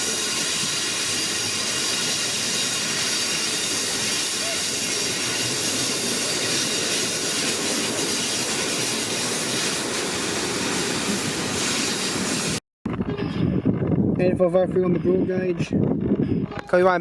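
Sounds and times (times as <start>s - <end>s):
train passing close by: 0.0s - 13.9s.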